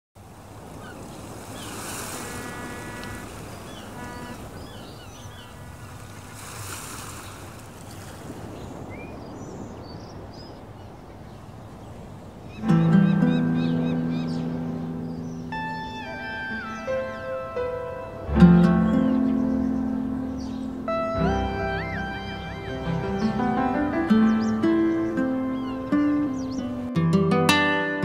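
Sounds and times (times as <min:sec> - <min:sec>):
ocean waves washing in: 0:00.2 - 0:26.9
birds chirping: 0:00.2 - 0:27.0.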